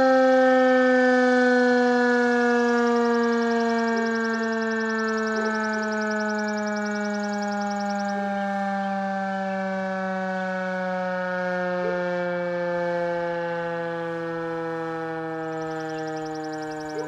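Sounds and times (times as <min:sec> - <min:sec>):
tornado siren winding down: 0:00.0 - 0:17.0.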